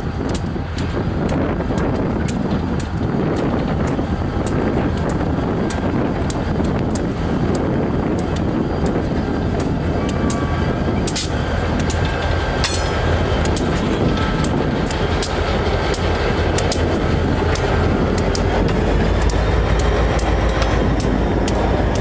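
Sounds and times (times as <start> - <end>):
freight train rumbling: 0.0 - 22.0
wheels clicking over rail joints: 0.0 - 22.0.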